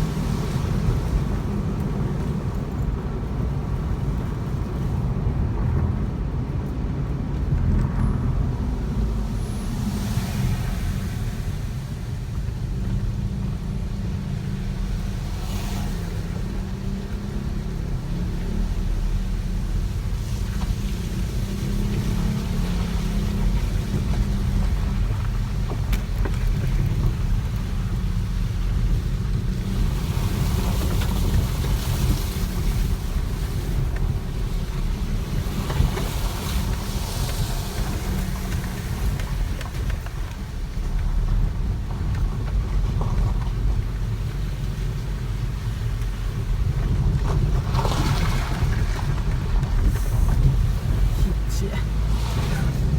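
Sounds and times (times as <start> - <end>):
car engine rumble: 0.0 - 52.9
road noise: 0.0 - 52.9.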